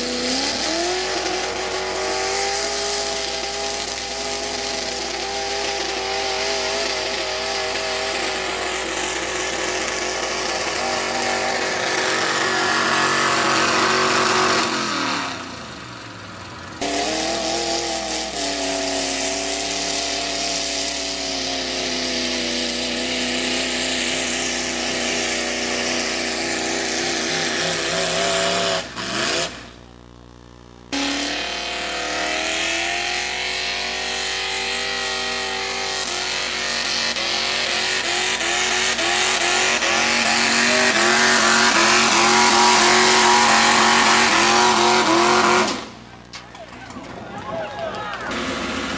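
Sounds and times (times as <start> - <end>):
tractor engine at full throttle: 0.0 - 48.9.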